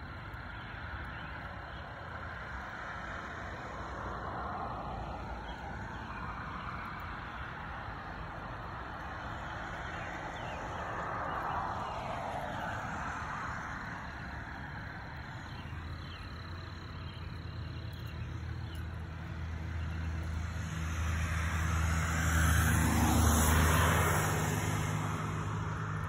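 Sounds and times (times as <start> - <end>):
distant road traffic: 0.0 - 26.0.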